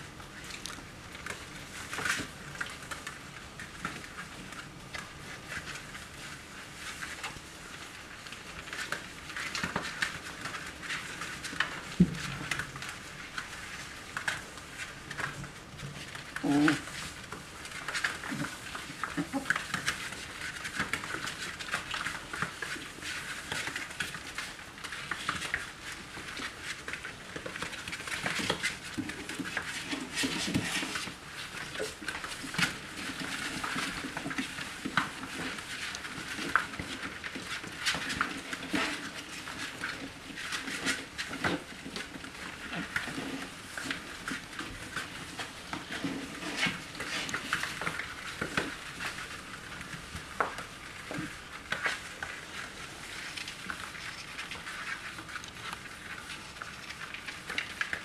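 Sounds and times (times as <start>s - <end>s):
claws scrabbling on floor: 0.1s - 58.0s.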